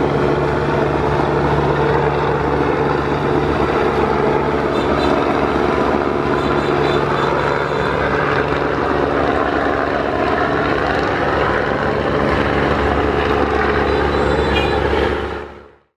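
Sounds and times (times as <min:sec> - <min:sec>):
boat diesel engines droning: 0:00.0 - 0:15.8.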